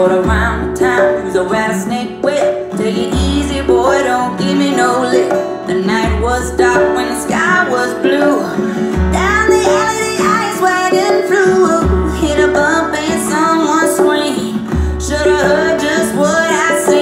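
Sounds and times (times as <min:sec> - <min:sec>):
song with singing and guitar: 0:00.0 - 0:17.0.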